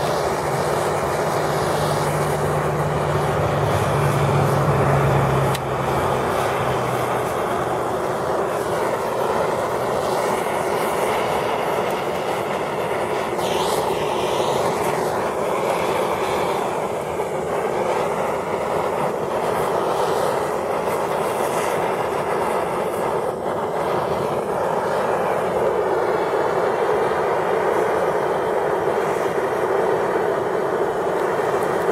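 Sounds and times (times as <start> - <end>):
gas torch flame hissing: 0.0 - 31.9.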